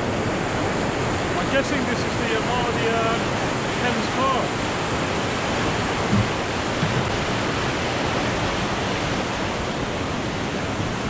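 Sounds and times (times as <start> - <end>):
water rushing through weir: 0.0 - 11.0.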